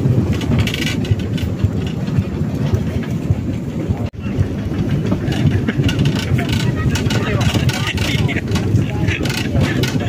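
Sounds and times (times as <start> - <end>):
rail trolley rumbling on tracks: 0.0 - 10.0.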